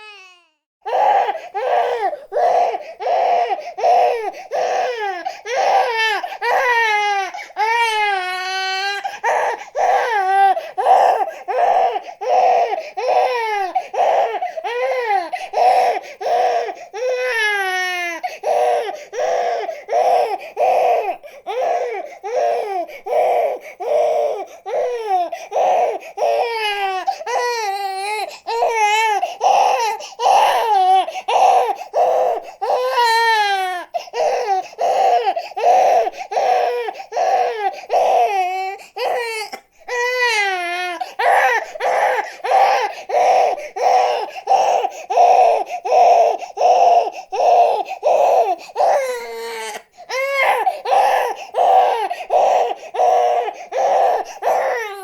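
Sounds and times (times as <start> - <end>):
baby crying: 0.0 - 55.0.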